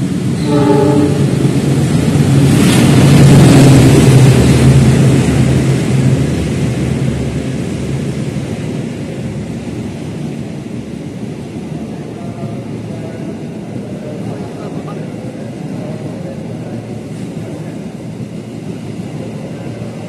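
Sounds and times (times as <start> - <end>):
diesel locomotive engine drone: 0.0 - 20.0
train coaches rumbling past: 0.0 - 20.0.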